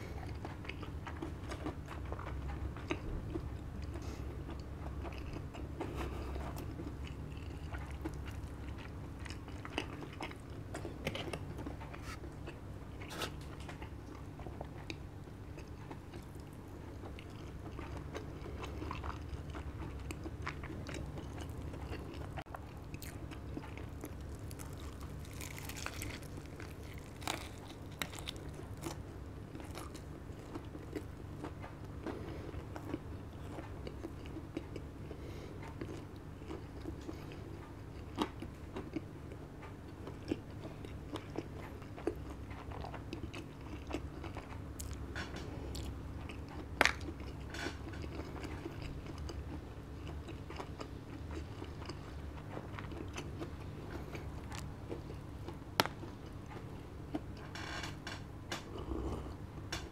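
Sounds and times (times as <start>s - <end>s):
crunchy chewing of fried chicken: 0.0s - 59.9s.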